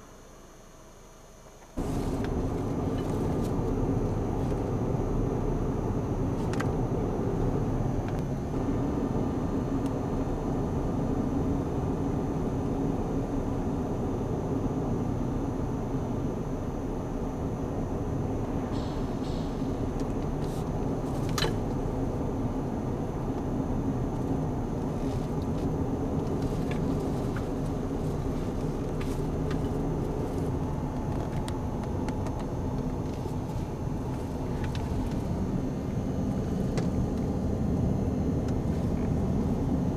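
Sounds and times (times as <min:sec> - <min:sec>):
road and engine rumble inside car: 0:00.0 - 0:39.9.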